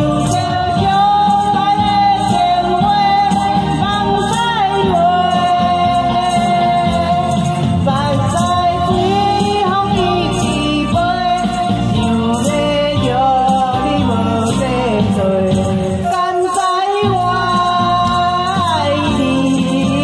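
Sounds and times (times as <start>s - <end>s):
elderly woman singing: 0.0s - 20.0s
instrumental accompaniment: 0.0s - 20.0s.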